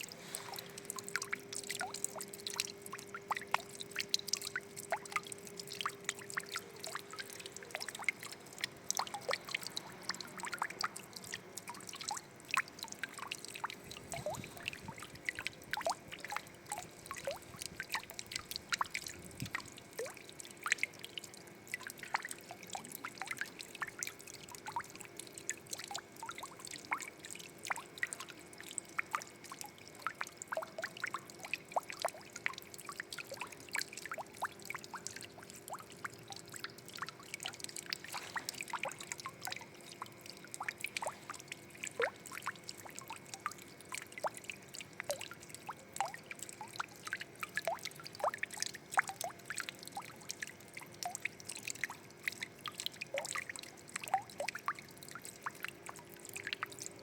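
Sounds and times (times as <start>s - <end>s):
faint steady hum: 0.0s - 57.0s
water drips and plinks: 0.0s - 57.0s
water trickling and splashing: 0.0s - 57.0s.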